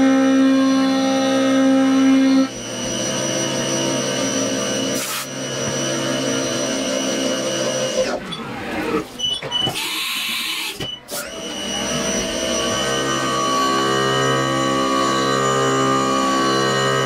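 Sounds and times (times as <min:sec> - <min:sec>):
mill spindle whine with cutting: 0:00.0 - 0:09.1, 0:09.8 - 0:17.0.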